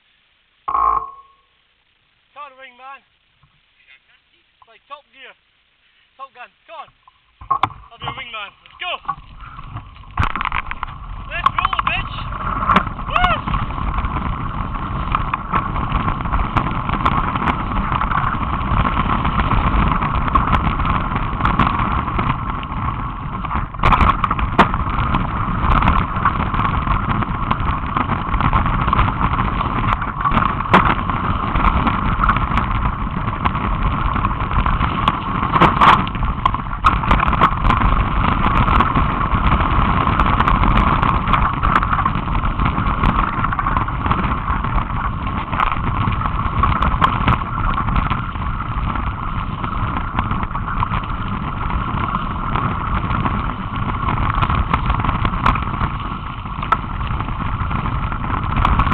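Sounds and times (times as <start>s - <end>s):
bike rumbling on gravel: 6.7s - 58.9s
bike knocks and rattles: 7.4s - 58.9s.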